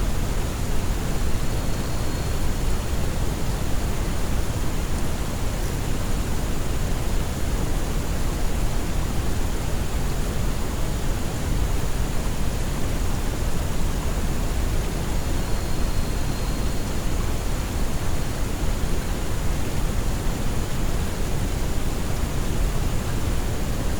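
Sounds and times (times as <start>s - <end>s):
soft white noise hiss: 0.0s - 23.9s.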